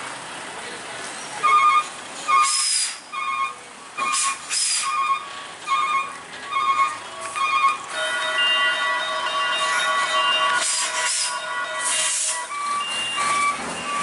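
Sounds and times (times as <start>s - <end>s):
truck warning beeper: 1.4s - 14.0s.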